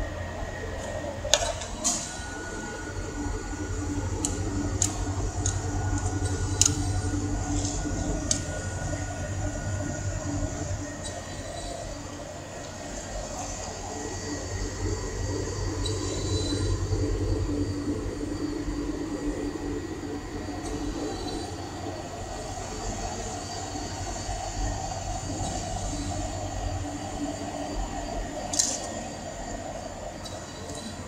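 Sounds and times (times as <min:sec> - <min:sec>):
faint high whine: 0:00.0 - 0:31.0
machine humming: 0:00.0 - 0:31.0.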